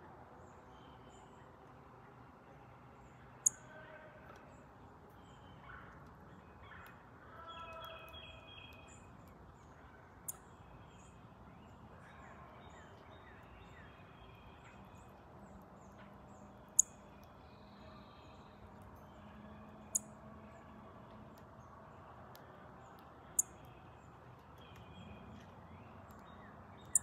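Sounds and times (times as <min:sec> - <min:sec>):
songbirds singing: 0:00.2 - 0:27.0.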